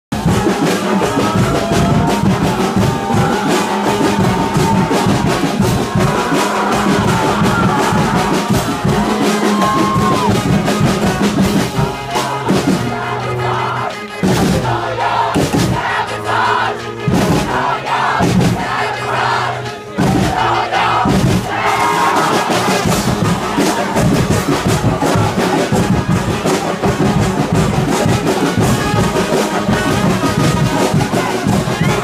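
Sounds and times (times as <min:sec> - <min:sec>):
brass band playing with drums: 0:00.1 - 0:32.0
crowd: 0:00.1 - 0:32.0.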